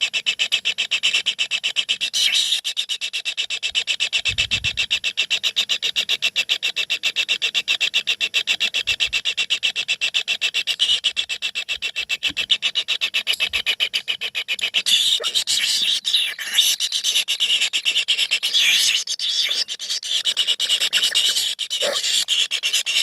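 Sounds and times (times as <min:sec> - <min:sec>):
nestlings rasping begging calls: 0:00.0 - 0:23.0.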